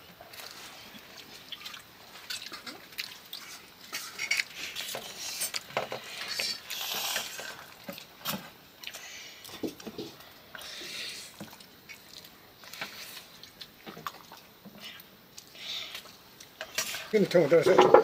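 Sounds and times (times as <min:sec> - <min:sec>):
slurping and chewing: 0:00.3 - 0:17.1.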